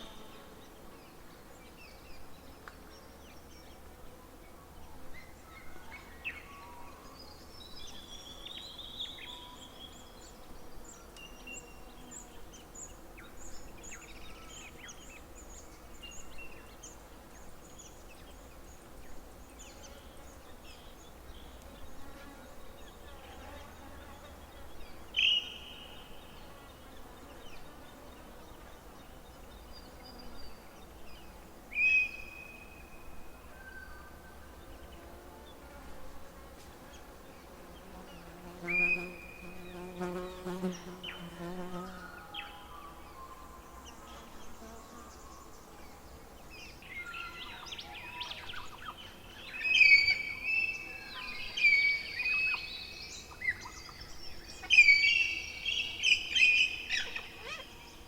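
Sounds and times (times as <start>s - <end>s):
birds singing: 0.0s - 35.8s, 36.9s - 58.0s
low steady buzz: 0.0s - 58.0s.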